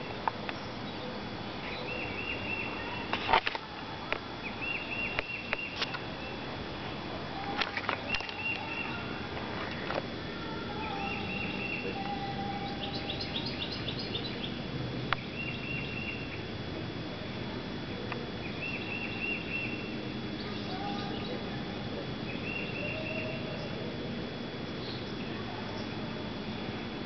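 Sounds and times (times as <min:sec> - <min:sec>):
birds calling: 0:00.0 - 0:06.6, 0:07.3 - 0:16.6, 0:18.2 - 0:26.3
outdoor background noise: 0:00.0 - 0:27.0.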